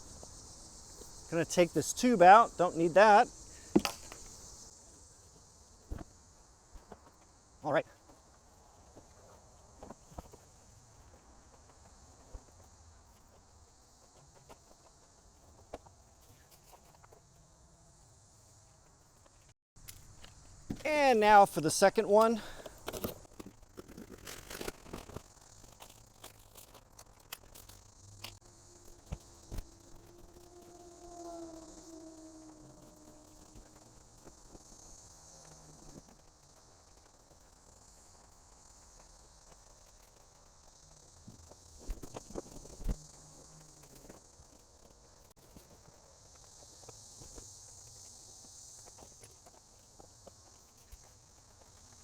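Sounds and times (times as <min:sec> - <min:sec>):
insects chirring: 0:00.0 - 0:52.0.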